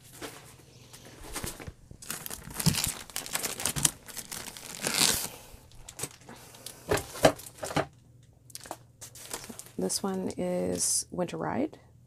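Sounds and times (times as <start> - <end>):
packaging crinkling and rustling: 0.0 - 10.8.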